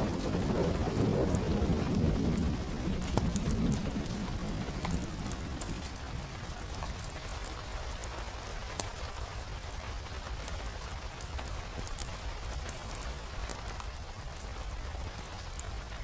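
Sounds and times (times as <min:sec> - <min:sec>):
steady rain: 0:00.0 - 0:16.0
wood fire crackling: 0:00.0 - 0:16.0.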